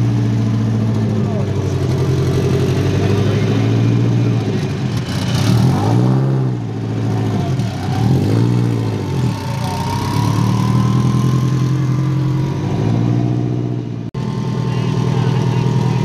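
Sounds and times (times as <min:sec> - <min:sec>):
race car engine idling and revving: 0:00.0 - 0:16.0.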